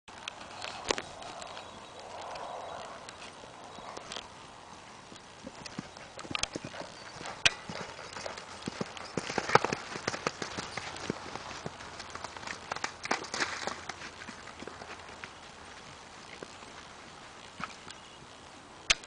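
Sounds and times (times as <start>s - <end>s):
horse hoofbeats on soft dirt: 0.1s - 18.5s.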